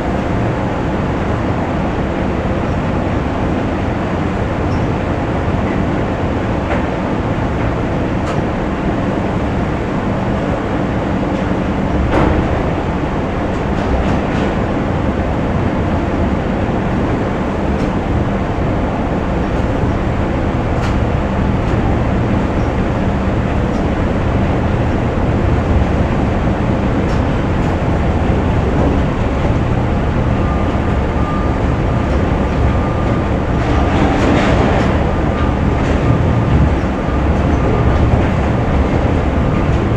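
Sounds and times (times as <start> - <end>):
factory machinery rumbling: 0.0 - 39.9.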